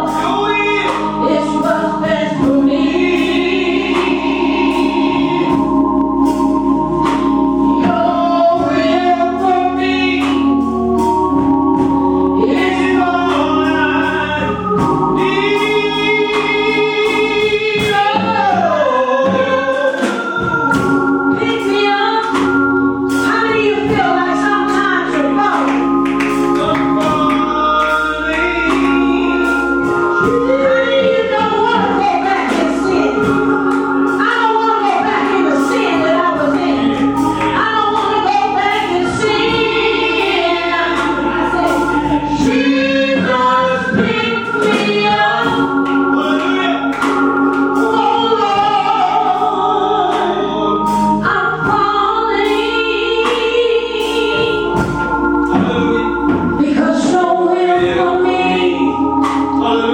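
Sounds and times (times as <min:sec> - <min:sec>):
gospel choir singing: 0:00.0 - 0:59.9
organ chords: 0:00.0 - 0:59.9.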